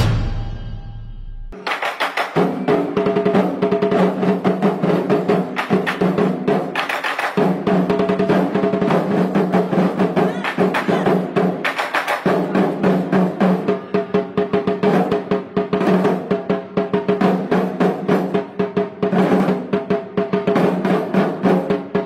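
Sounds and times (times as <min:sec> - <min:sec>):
drum beaten in fast rhythm: 0:00.0 - 0:22.0.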